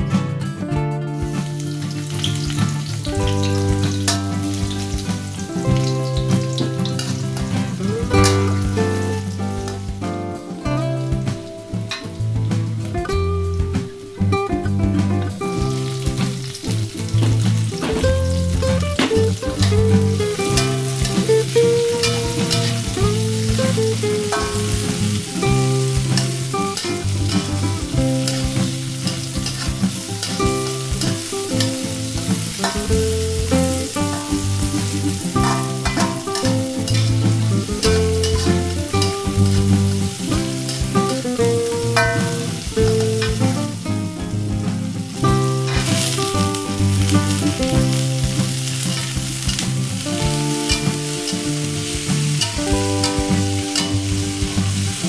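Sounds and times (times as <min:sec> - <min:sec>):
instrumental background music: 0:00.0 - 0:55.0
food sizzling in hot oil: 0:01.1 - 0:55.0.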